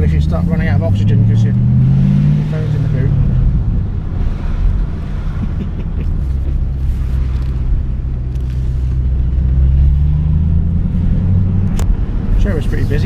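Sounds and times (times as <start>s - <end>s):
car engine at low revs: 0.0s - 13.0s
tyre and road rumble: 0.0s - 13.0s.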